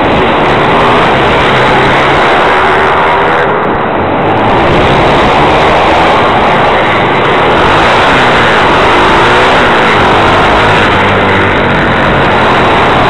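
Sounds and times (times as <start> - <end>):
dense rush of noise: 0.0 - 13.0
motorbike engine revving: 0.0 - 13.0.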